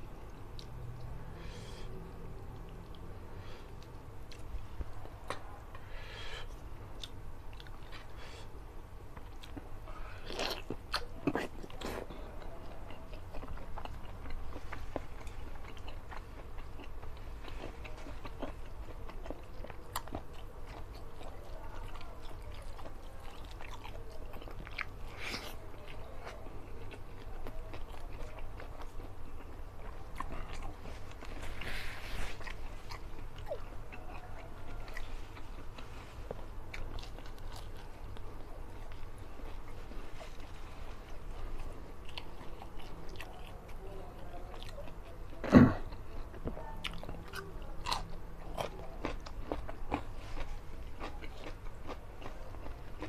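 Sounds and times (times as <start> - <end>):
man chewing food: 0.0 - 53.0
steady low hum: 0.0 - 53.0.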